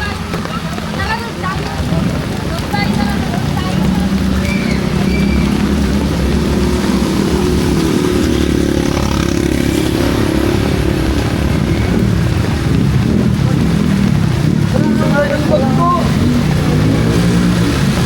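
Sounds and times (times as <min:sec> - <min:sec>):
heavy rain hiss: 0:00.0 - 0:18.0
vehicle engine droning: 0:00.0 - 0:18.0.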